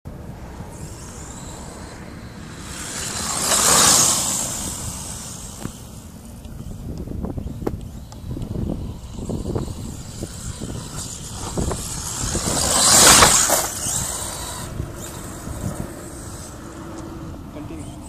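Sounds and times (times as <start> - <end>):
rc truck driving through sand: 0.1 - 18.0.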